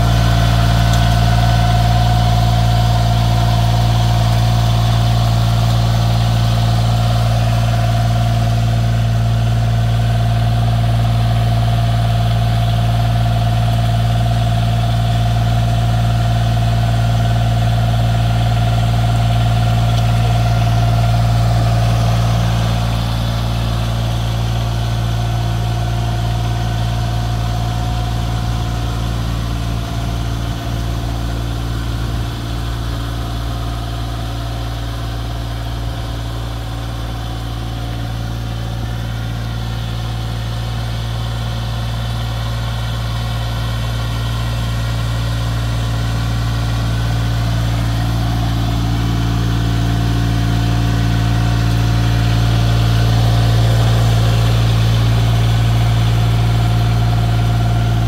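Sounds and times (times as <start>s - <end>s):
engine running with low hum: 0.0s - 58.0s.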